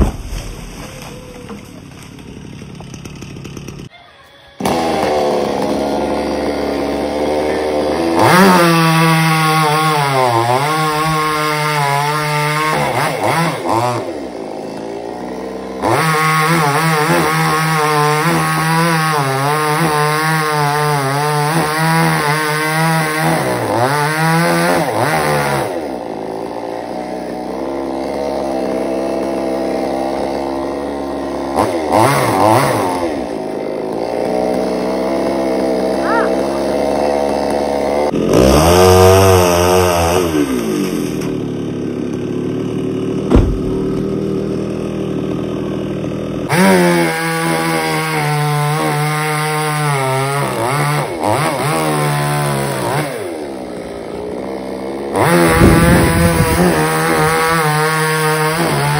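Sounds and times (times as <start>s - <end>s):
chainsaw cutting wood: 0.0s - 58.9s
chainsaw idling: 0.8s - 58.9s.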